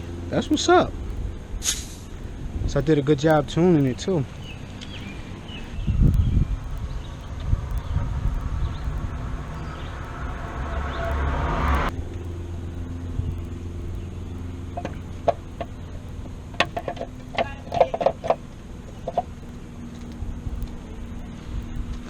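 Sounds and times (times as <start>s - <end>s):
low hum: 0.0s - 22.0s
rush of vehicle noise: 0.0s - 22.0s.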